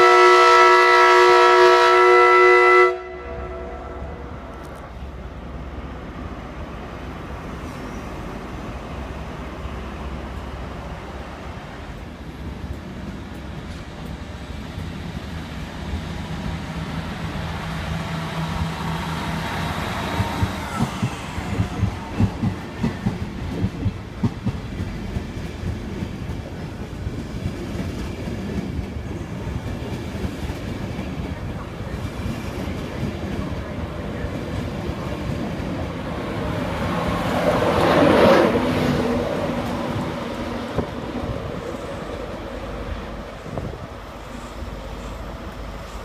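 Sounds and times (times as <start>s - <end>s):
train rumbling past: 0.0s - 46.0s.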